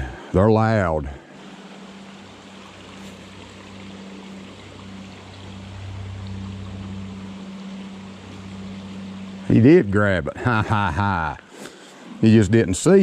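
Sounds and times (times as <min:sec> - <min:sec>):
steady low hum: 0:00.0 - 0:11.5
creek water running: 0:00.0 - 0:13.0.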